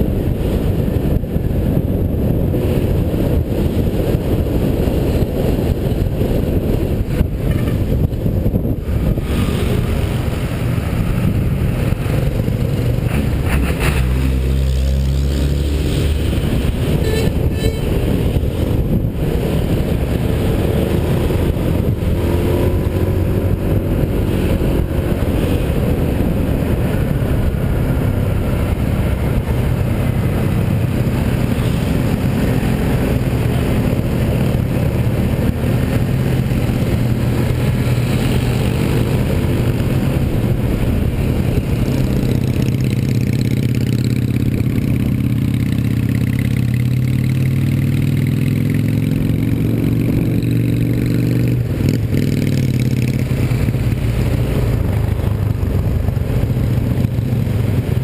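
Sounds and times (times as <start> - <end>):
scooter engine humming: 0.0 - 13.4, 15.7 - 58.0
wind rushing over microphone: 0.0 - 58.0.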